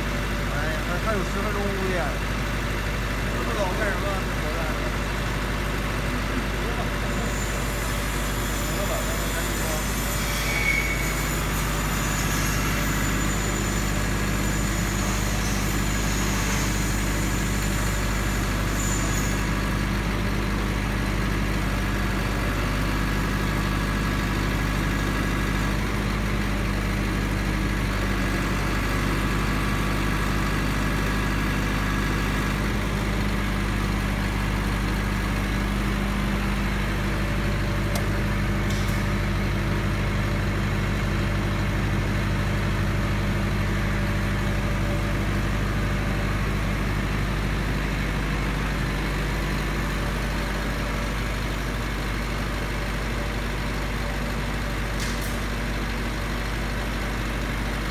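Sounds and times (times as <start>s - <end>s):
diesel generator droning: 0.0s - 57.9s.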